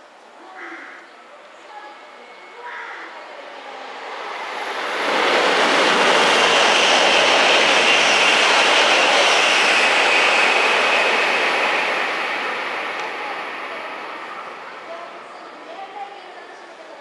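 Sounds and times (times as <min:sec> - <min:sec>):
high-speed train rushing past: 0:01.7 - 0:17.0.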